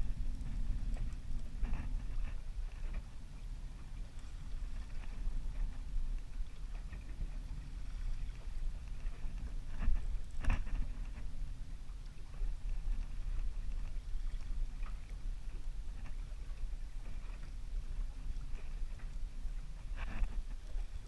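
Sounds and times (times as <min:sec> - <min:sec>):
water and wind rumble: 0:00.0 - 0:21.0.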